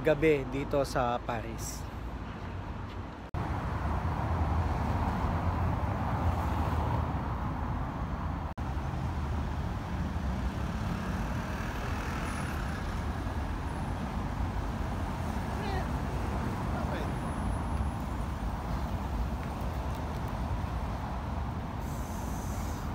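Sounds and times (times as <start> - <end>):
passing vehicles rumbling: 0.0 - 22.9.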